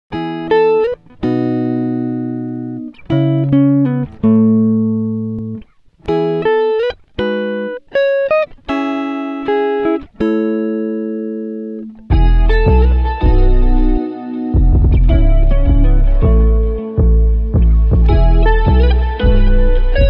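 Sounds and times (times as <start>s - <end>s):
plucked string music: 0.1s - 20.0s.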